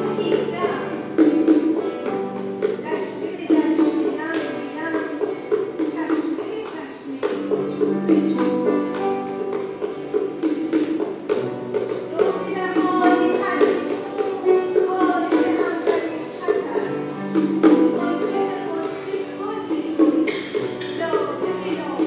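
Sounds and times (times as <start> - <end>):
plucked or struck beat: 0.0 - 22.0.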